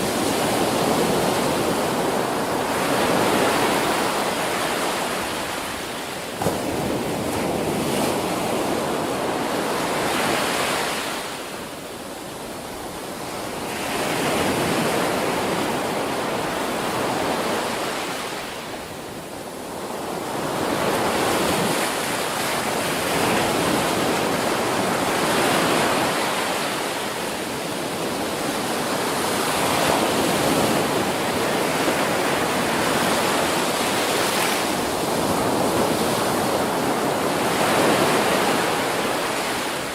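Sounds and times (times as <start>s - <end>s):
ocean surf breaking: 0.0s - 11.8s, 12.4s - 39.9s.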